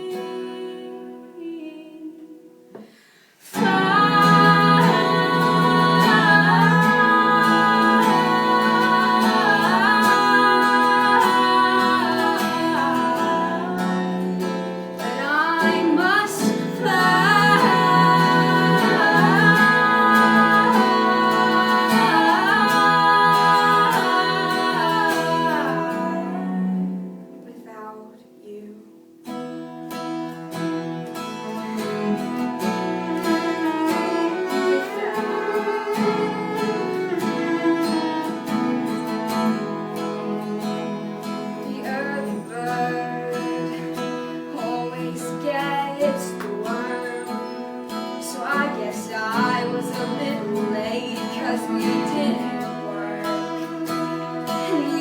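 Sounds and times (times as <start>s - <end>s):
woman singing: 0.0s - 2.6s, 3.4s - 28.9s, 32.8s - 55.0s
acoustic guitar strumming: 0.0s - 55.0s.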